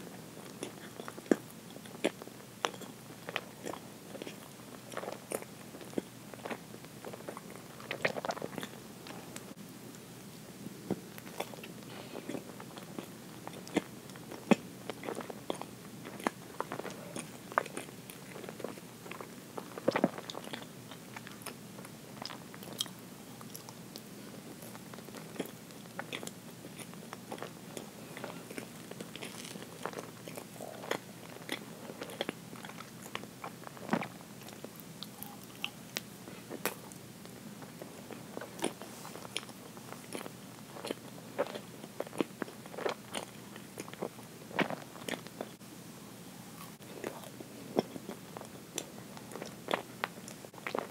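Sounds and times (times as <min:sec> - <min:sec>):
close chewing and mouth sounds: 0:00.0 - 0:09.6, 0:10.8 - 0:45.6, 0:46.5 - 0:50.9.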